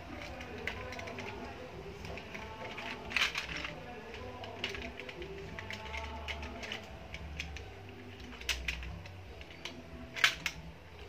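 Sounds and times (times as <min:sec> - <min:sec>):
plastic toy clicks and taps: 0:00.1 - 0:10.7.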